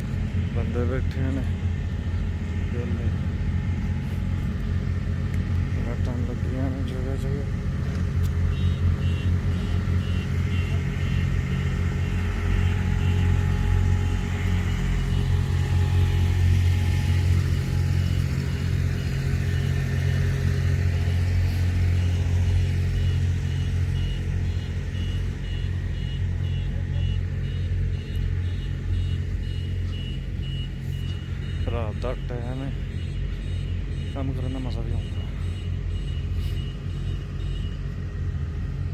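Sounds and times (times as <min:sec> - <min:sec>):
heavy machinery engines rumbling: 0:00.0 - 0:38.9.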